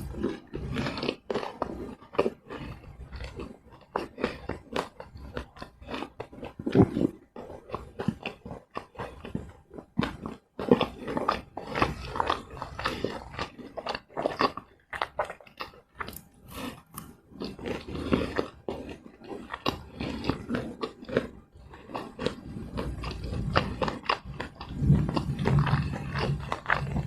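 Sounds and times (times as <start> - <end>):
chewing crunchy snacks: 0.0 - 27.0.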